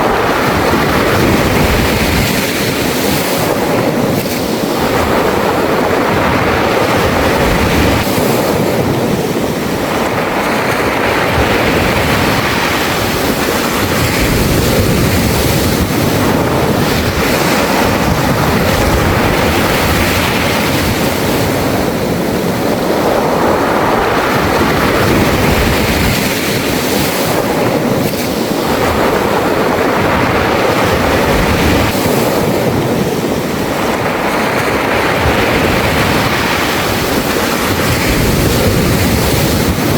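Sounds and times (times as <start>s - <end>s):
sea waves washing over pebbles: 0.0s - 39.9s.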